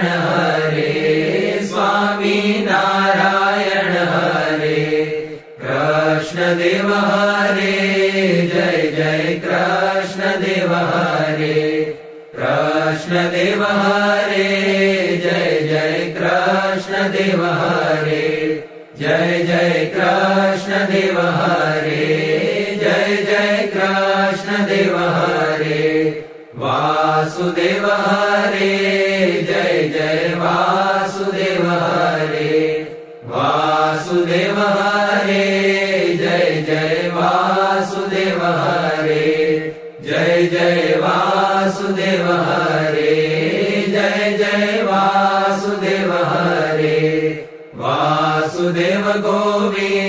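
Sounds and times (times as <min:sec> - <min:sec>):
voices chanting: 0:00.0 - 0:50.0.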